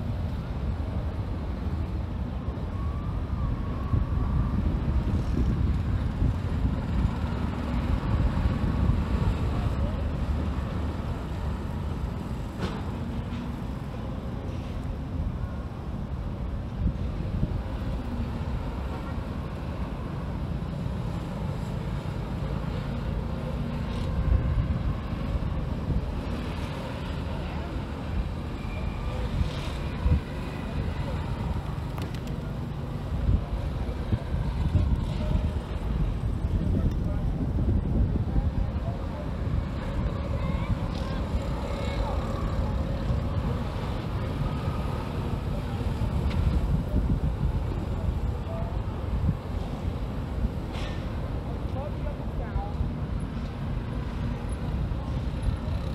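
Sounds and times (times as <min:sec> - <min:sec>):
street traffic hum: 0:00.0 - 0:55.9
wind rumbling on microphone: 0:00.0 - 0:55.9.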